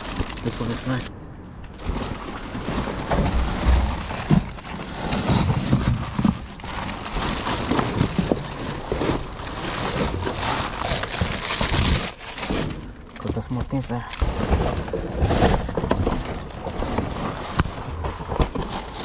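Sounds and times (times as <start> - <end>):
cardboard and plastic rustling: 0.0 - 1.1, 1.7 - 19.0.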